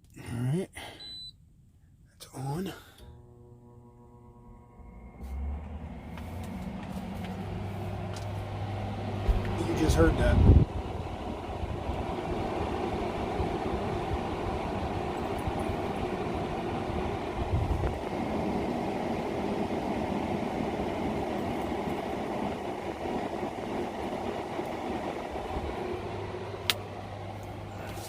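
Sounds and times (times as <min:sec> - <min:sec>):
air conditioner running: 0:00.2 - 0:28.0.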